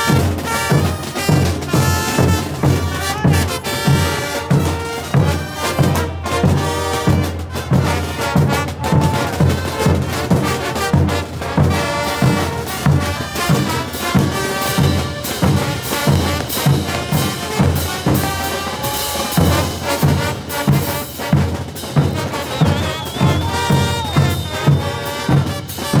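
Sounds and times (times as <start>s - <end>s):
steady bass drum beat: 0.0s - 26.0s
trumpets and trombones: 0.0s - 26.0s.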